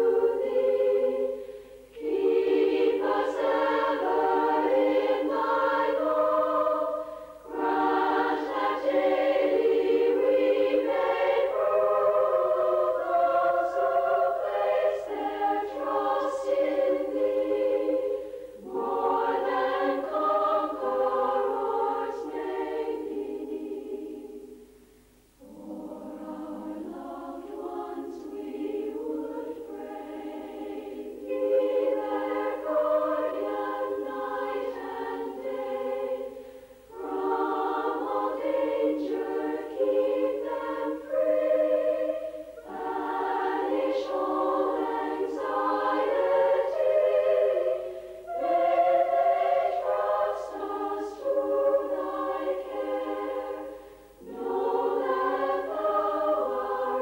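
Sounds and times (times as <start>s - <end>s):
women's choir singing a cappella: 0.0s - 24.8s, 25.4s - 57.0s.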